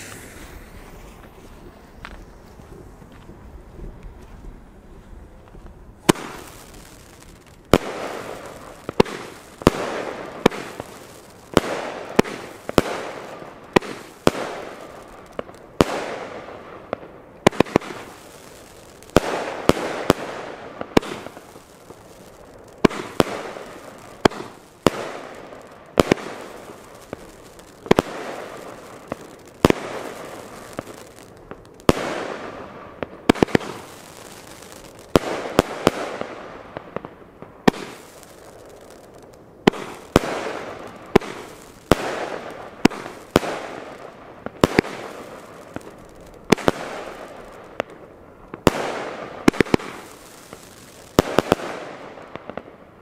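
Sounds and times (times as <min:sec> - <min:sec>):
firework bangs: 0:00.0 - 0:04.7, 0:05.4 - 0:53.0.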